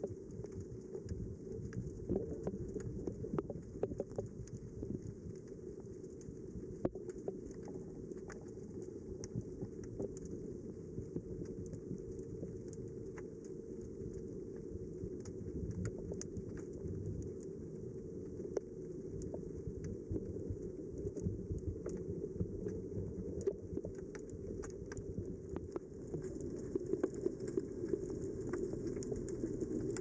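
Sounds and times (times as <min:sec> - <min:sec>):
muffled underwater water rush: 0:00.0 - 0:30.0
sharp underwater clicks and crackles: 0:00.0 - 0:30.0.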